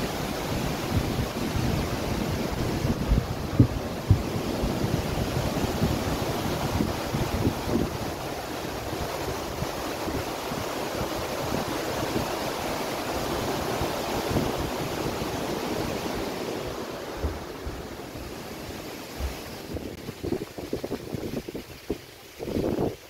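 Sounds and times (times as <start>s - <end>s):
water rushing through a weir: 0.0s - 23.0s
wind buffeting microphone: 0.0s - 23.0s.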